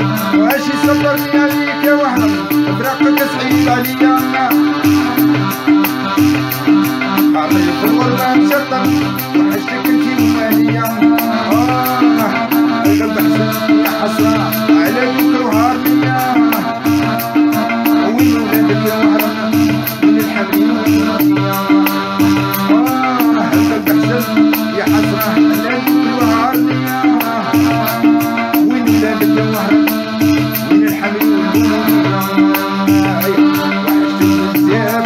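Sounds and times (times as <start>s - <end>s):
accordion playing: 0.0s - 35.0s
man singing: 0.0s - 35.0s
steady low pulsing beat: 0.0s - 35.0s.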